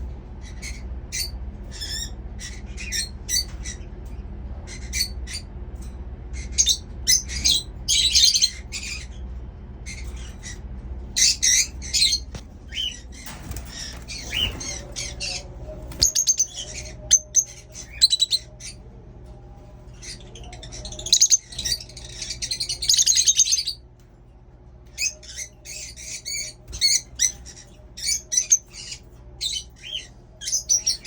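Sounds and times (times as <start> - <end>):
pet birds chirping: 0.0 - 31.0.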